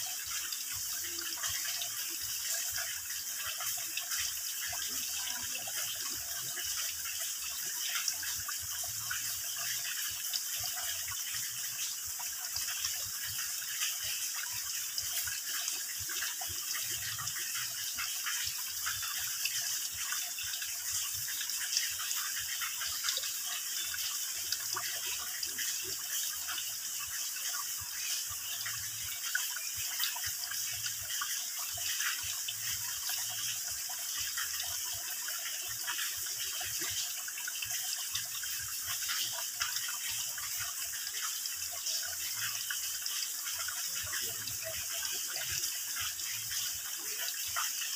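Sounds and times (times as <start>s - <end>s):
drips and splashes: 0.0s - 47.9s
water trickling and gurgling: 0.0s - 47.9s.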